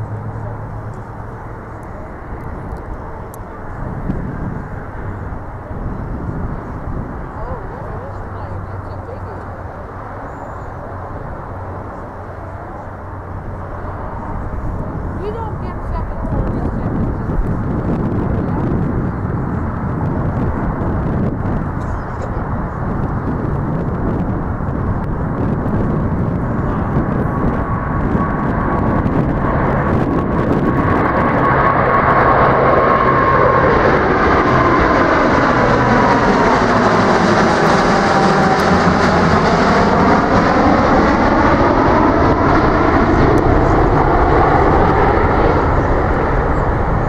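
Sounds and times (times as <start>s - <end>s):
jet airliner taking off: 0.0s - 47.0s.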